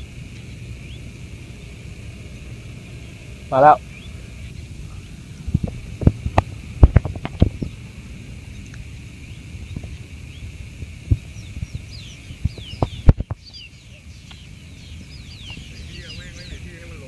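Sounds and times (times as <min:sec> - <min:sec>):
birds chirping: 0:00.0 - 0:17.0
wind rumble on microphone: 0:00.0 - 0:17.0.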